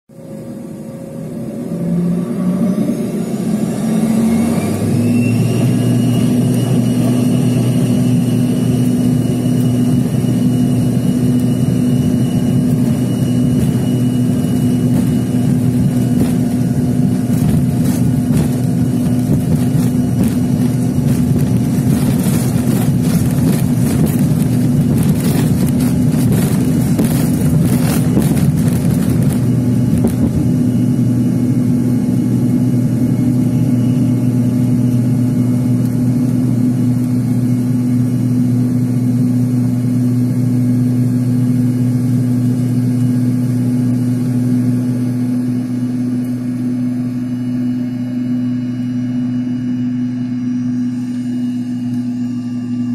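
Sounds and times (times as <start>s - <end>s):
jet engines droning: 0.1s - 52.9s
plane rattling on runway: 2.2s - 46.7s.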